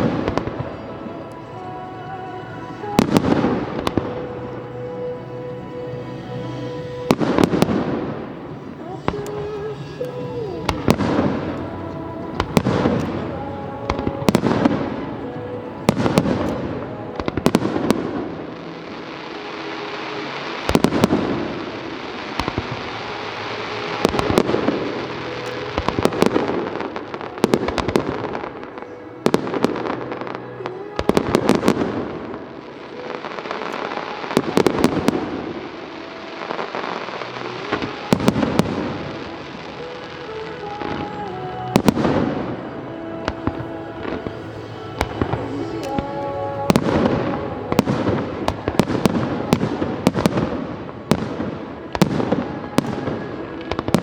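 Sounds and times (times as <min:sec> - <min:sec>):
fireworks bangs: 0:00.0 - 0:54.0
music: 0:00.0 - 0:54.0.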